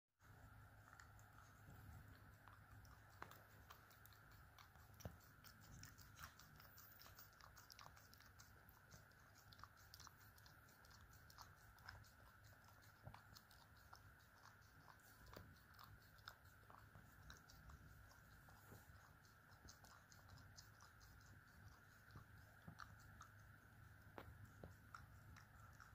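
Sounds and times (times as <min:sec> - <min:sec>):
low steady hum: 0:00.2 - 0:25.9
puppy licking and lip-smacking: 0:00.2 - 0:25.9.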